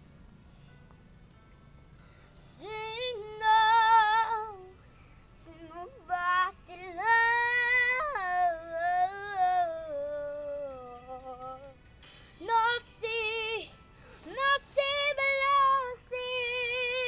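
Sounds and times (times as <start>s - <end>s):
girl singing: 2.4s - 11.8s, 12.4s - 17.0s.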